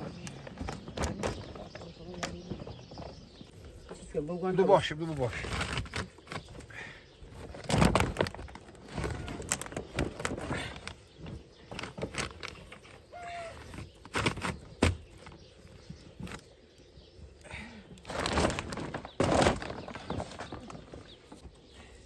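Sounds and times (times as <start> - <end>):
plastic tarpaulin crackling: 0.0 - 16.6, 17.5 - 21.5.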